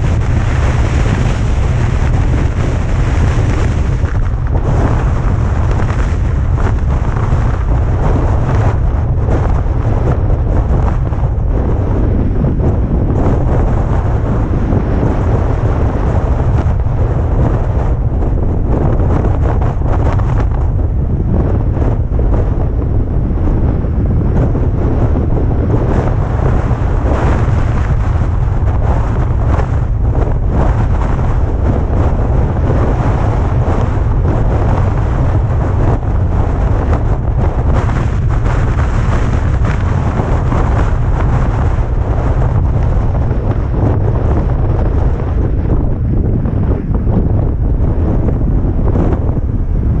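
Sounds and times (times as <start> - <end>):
car driving: 0.0 - 50.0
low rumble: 0.0 - 50.0
wind buffeting microphone: 0.0 - 50.0.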